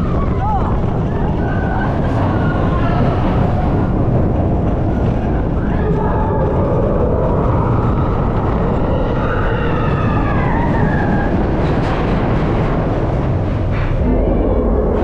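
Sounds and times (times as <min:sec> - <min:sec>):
roller coaster train rumbling: 0:00.0 - 0:15.0.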